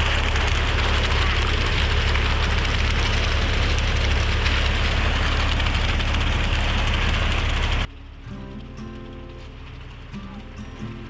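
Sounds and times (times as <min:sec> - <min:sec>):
large engine humming: 0:00.0 - 0:11.0.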